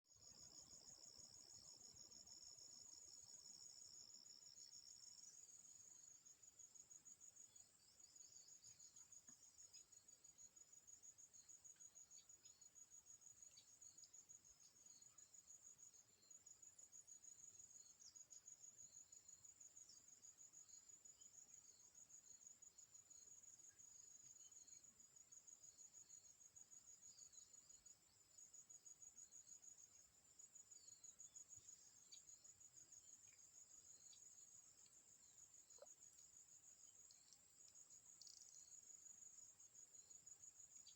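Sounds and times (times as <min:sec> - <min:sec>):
lower cricket trill: 0:00.1 - 0:40.9
crickets trilling: 0:00.2 - 0:40.9.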